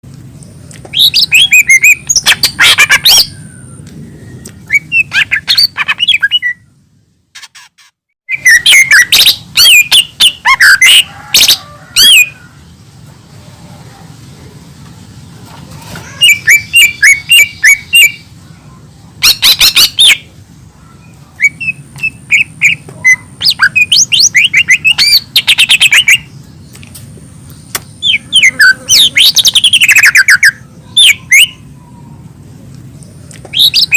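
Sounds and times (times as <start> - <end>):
bird singing chirps and trills: 0.4 - 6.9, 8.3 - 12.9, 16.0 - 33.9.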